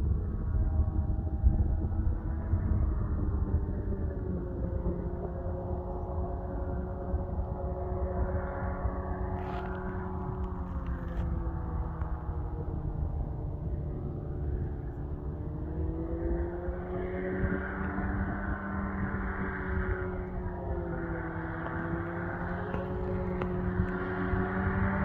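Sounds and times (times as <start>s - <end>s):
paraglider engine and propeller droning: 0.0s - 25.0s.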